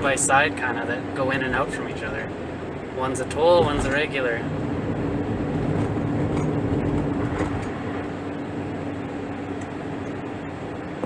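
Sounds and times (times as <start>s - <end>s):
engine and road noise: 0.0s - 11.0s
steady hum: 0.0s - 11.0s.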